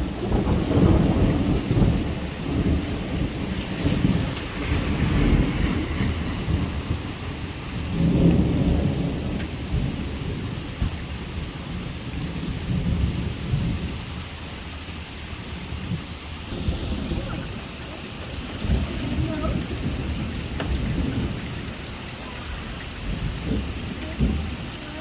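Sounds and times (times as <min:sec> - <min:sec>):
heavy rain: 0:00.0 - 0:25.0
thunder rumbling: 0:00.0 - 0:25.0.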